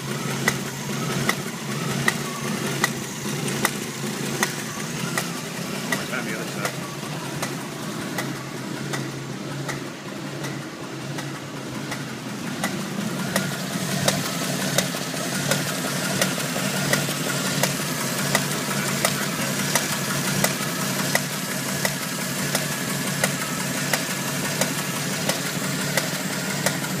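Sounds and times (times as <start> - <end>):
engine running with knock: 0.0 - 27.0.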